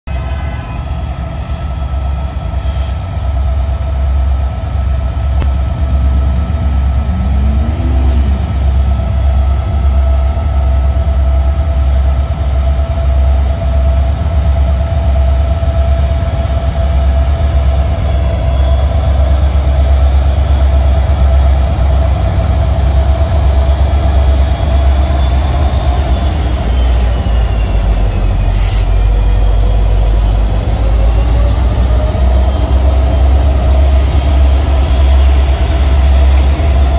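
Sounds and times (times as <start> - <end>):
diesel locomotive engine rumble: 0.0 - 36.9
high whine: 0.1 - 36.9.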